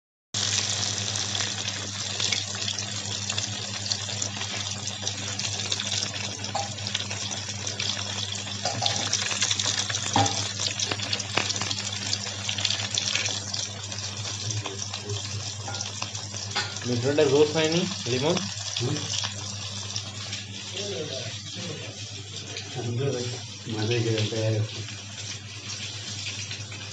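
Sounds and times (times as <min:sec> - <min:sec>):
fish sizzling in hot oil: 0:00.4 - 0:26.9.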